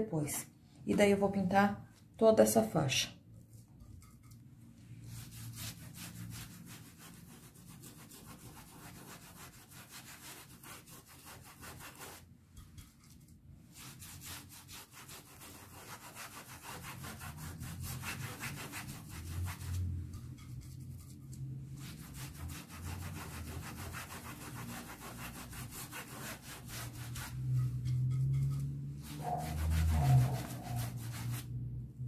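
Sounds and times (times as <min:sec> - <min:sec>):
paintbrush scrubbing fabric: 0:03.4 - 0:31.7.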